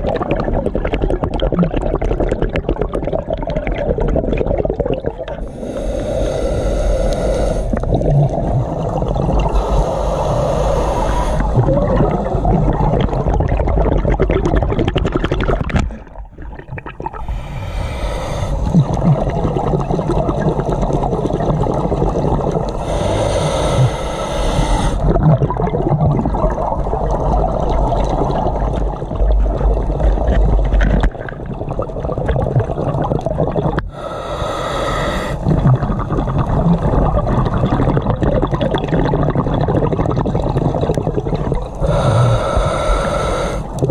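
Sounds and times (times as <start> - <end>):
underwater bubbles gurgling: 0.0 - 43.9.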